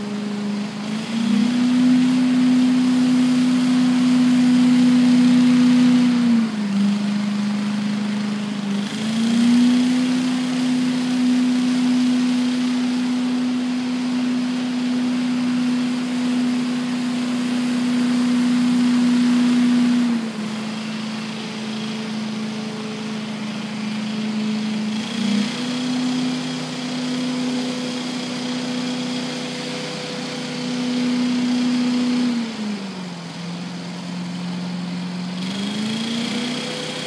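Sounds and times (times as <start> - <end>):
leaf blower engine running: 0.0 - 37.0.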